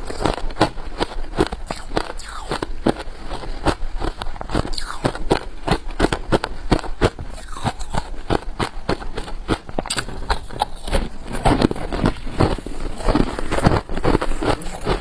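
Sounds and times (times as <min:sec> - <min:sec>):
frost crunching being chewed: 0:00.0 - 0:15.0.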